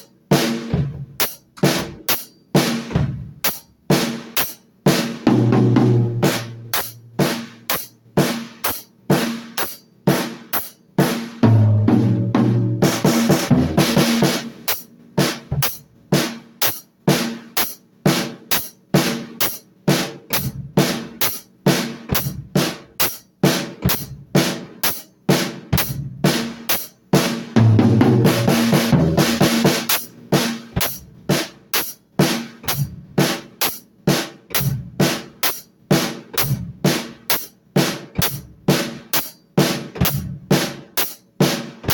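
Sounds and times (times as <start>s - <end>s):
drum kit beat: 0.0s - 41.9s.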